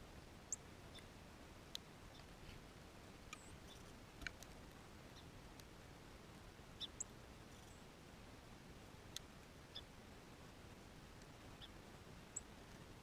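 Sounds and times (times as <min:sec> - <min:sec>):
faint steady hiss: 0:00.0 - 0:13.0
small birds chirping: 0:00.4 - 0:05.8, 0:06.7 - 0:08.0, 0:09.0 - 0:13.0.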